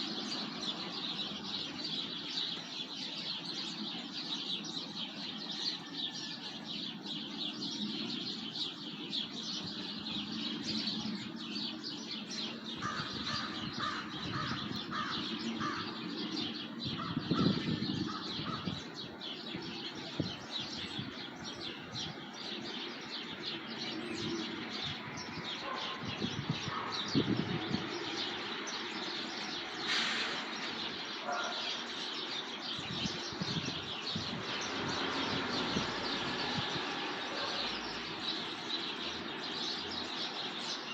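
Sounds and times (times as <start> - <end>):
birds chirping chorus: 0.0 - 40.9.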